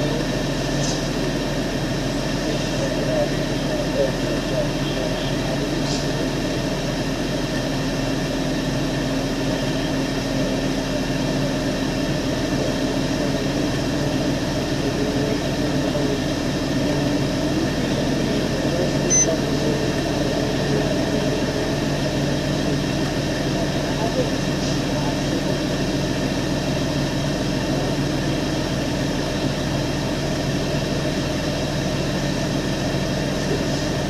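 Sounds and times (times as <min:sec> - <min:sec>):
vehicle engine idling: 0:00.0 - 0:34.0
ventilation fan running: 0:00.0 - 0:34.0.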